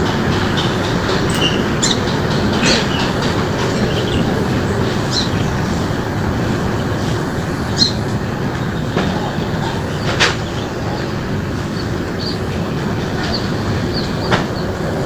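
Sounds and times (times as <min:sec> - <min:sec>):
birds chirping: 0:00.0 - 0:15.0
loud rushing noise: 0:00.0 - 0:15.0.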